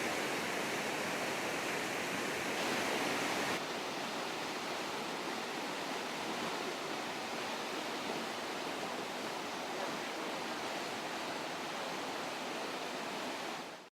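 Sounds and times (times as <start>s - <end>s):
flood water rushing: 0.0s - 13.8s.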